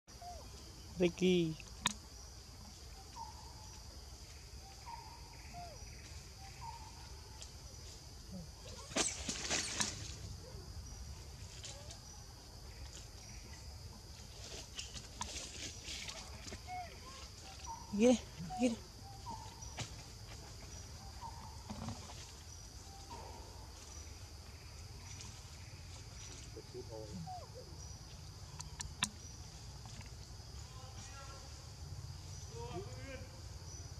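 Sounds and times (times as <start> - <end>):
insects buzzing: 0.1 - 33.9.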